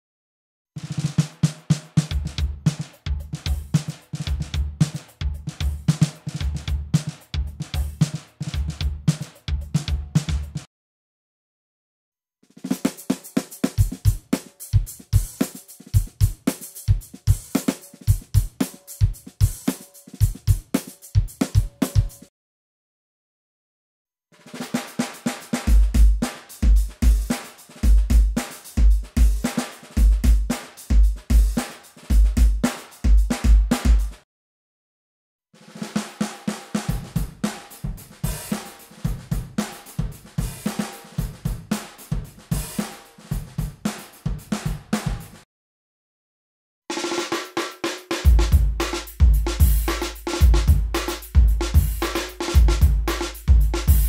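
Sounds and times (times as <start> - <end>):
drum kit groove: 0.8 - 10.7, 12.5 - 22.3, 24.4 - 34.2, 35.7 - 45.4, 46.9 - 54.0.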